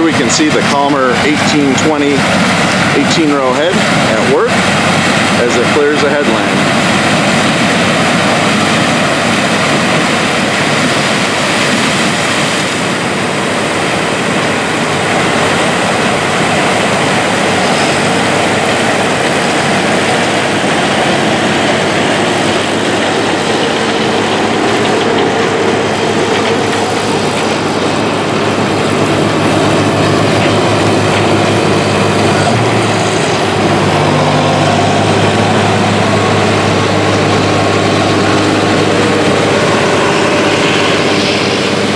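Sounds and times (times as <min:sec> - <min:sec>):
combine harvester machinery din: 0:00.0 - 0:41.9
low engine hum: 0:00.0 - 0:41.9.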